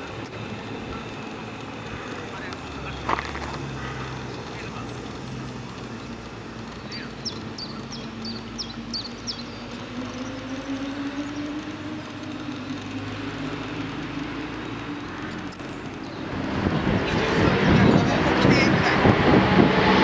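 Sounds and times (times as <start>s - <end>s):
small bird chirping: 0.0s - 18.3s
car engine accelerating: 0.0s - 20.0s.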